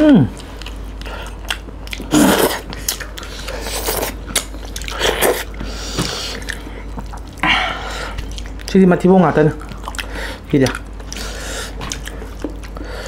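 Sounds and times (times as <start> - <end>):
biting and chewing food: 0.3 - 7.4, 8.0 - 8.8, 9.4 - 13.0.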